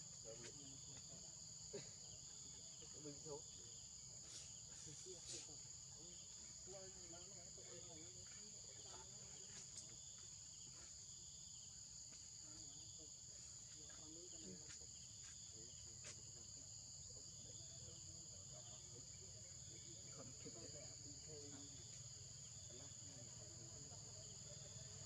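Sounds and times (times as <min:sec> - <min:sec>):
insects droning: 0:00.0 - 0:25.0
soft pulsing insect call: 0:00.0 - 0:25.0.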